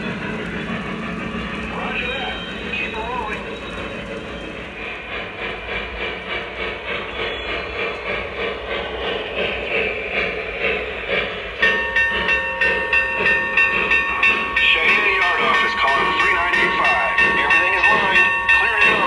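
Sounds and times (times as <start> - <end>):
chime steam whistle: 0.0 - 8.3, 11.6 - 19.0
steam locomotive chuffing: 0.0 - 19.0.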